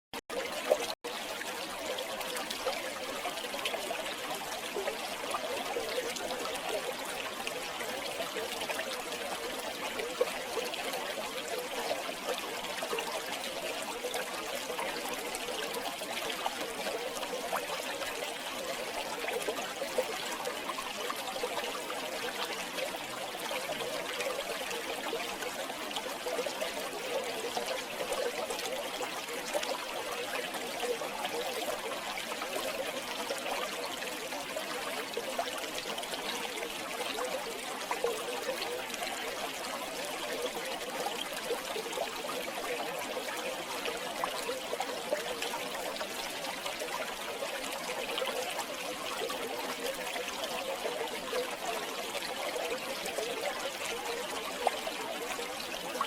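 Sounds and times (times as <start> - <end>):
river water babbling over stones: 0.3 - 56.0.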